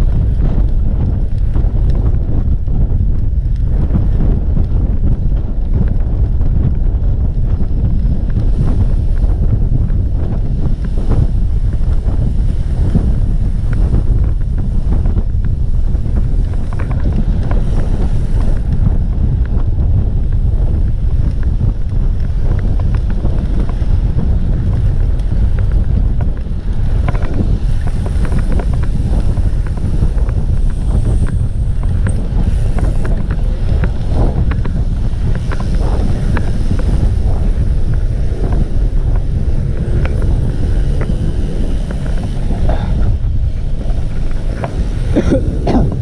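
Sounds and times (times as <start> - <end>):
faint ticks and clicks: 0.0 - 46.0
wind buffeting microphone: 0.0 - 46.0.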